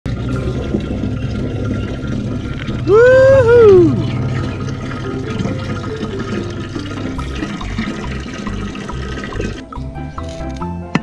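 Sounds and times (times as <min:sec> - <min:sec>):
water splashing and running: 0:00.1 - 0:10.4
music beat: 0:00.3 - 0:11.0.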